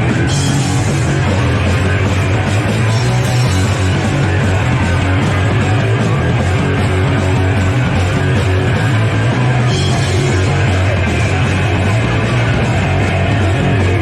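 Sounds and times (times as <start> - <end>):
punk rock band playing: 0.0 - 14.0.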